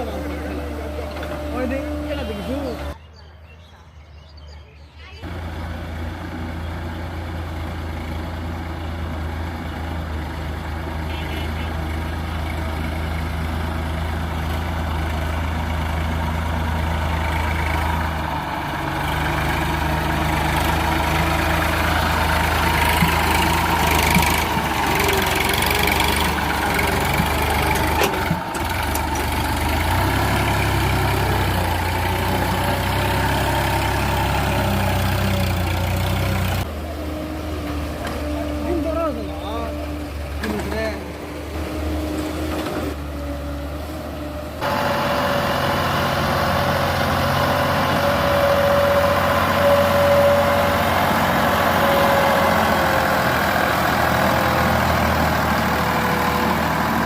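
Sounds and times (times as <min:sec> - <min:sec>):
heavy vehicle engine running: 0:00.0 - 0:03.0, 0:05.1 - 0:57.0.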